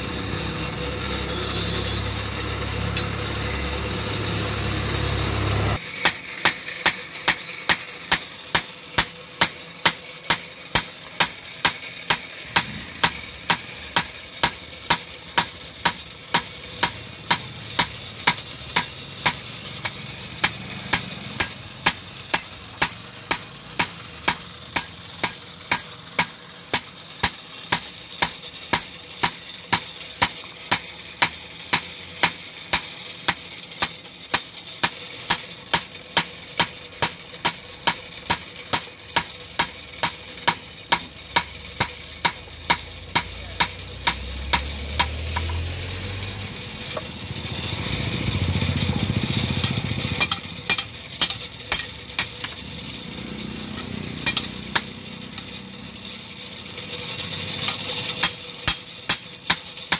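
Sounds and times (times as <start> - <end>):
hammer striking metal on anvil: 5.7 - 46.2, 49.4 - 56.0, 57.6 - 59.9.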